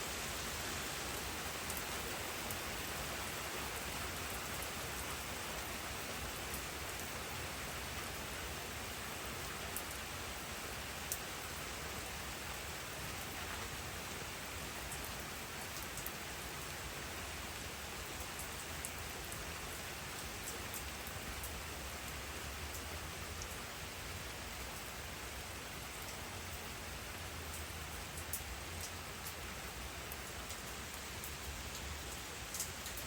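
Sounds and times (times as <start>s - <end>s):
steady rainfall hiss: 0.0s - 33.0s.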